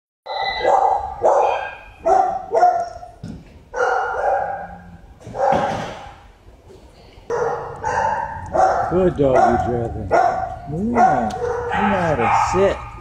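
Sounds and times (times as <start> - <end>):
dog barking: 0.6 - 6.0, 7.3 - 13.0.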